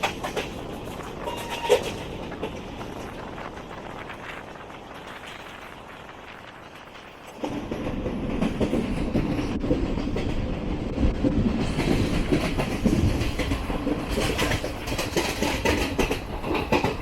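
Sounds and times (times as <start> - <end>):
train coach rattling: 0.0 - 17.0
train wheels clattering on rails: 0.0 - 17.0.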